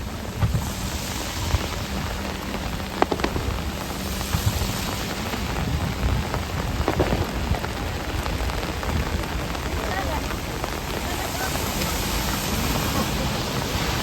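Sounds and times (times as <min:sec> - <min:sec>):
heavy rain falling: 0:00.0 - 0:14.0
raindrops hitting close to microphone: 0:00.0 - 0:14.0.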